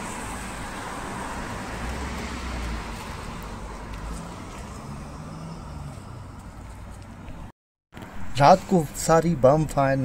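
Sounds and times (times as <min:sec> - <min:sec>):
car passing: 0:00.0 - 0:09.4
street noise hiss: 0:00.0 - 0:10.0.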